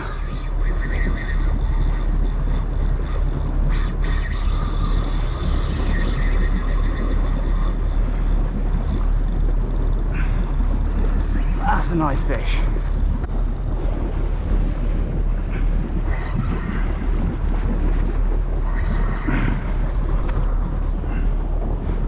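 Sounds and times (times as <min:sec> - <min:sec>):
boat motor rumble: 0:00.0 - 0:22.0
water noise: 0:00.0 - 0:22.0
wind: 0:00.0 - 0:22.0.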